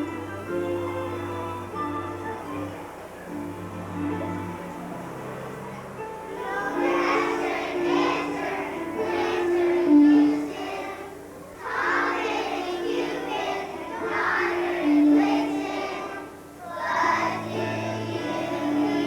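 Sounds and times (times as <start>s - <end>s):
children's choir singing: 0.0s - 19.0s
musical accompaniment: 0.0s - 19.0s.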